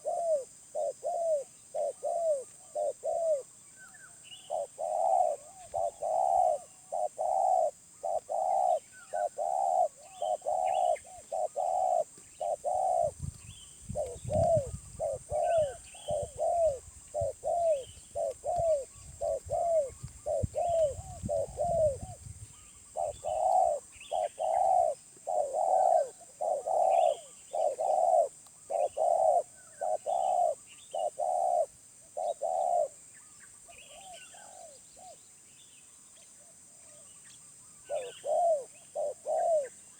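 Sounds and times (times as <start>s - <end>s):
dove cooing: 0.0s - 33.0s, 37.8s - 39.9s
small birds chirping: 0.0s - 39.9s.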